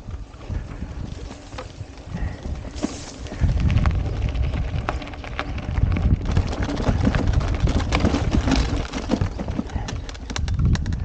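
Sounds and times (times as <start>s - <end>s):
bike clicking and rattling: 0.0s - 11.0s
wind rumbling on microphone: 0.0s - 11.0s
tyres crunching on gravel: 0.2s - 10.4s.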